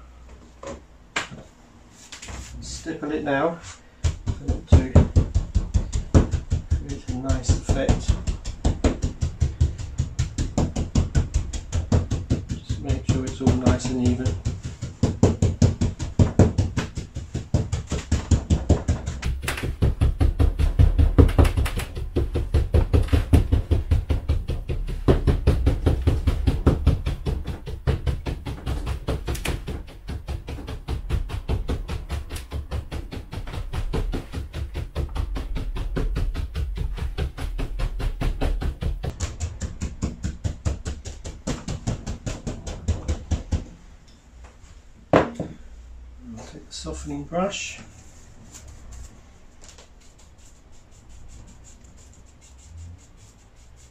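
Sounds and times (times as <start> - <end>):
brush dabbing on board: 1.9 - 43.6, 47.9 - 53.9.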